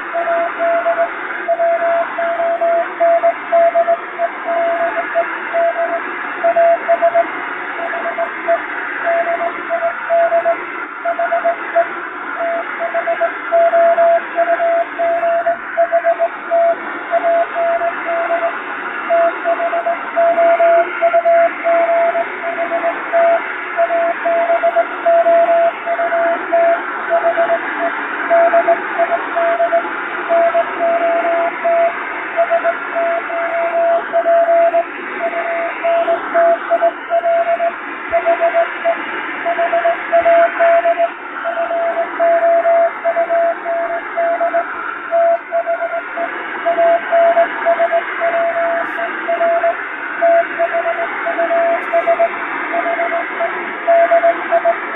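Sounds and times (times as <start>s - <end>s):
shortwave receiver hiss: 0.0s - 54.9s
morse code beeps: 0.1s - 54.8s.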